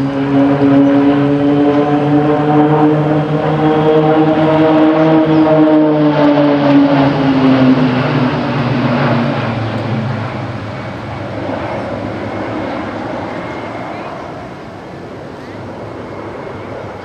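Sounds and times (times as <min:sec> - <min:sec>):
propeller planes passing overhead: 0:00.0 - 0:17.0.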